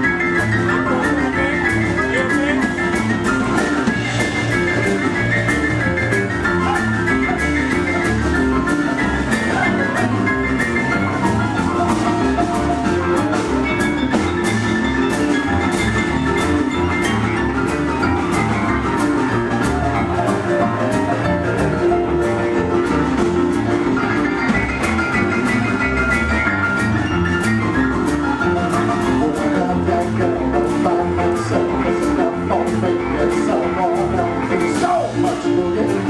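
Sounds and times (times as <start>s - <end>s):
boogie-woogie piano: 0.0s - 36.0s
repeating bass figure: 0.0s - 36.0s
steady drum beat: 0.0s - 36.0s.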